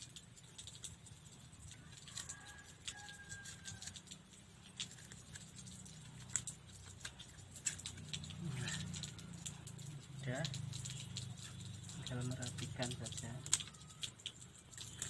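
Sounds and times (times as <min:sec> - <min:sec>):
bamboo sticks clicking and tapping: 0:00.0 - 0:15.0.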